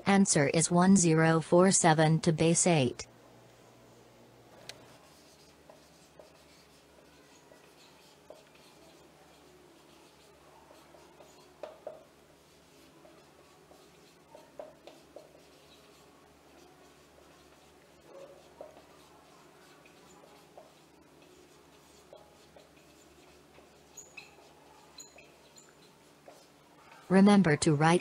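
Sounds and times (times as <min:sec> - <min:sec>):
marker squeaking on whiteboard: 0:04.8 - 0:28.0.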